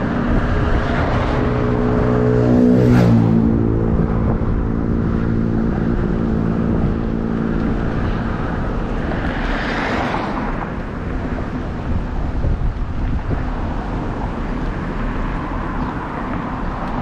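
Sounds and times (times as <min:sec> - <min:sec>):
vehicle engine hum: 0:00.0 - 0:17.0
wind rumble on microphone: 0:00.0 - 0:17.0.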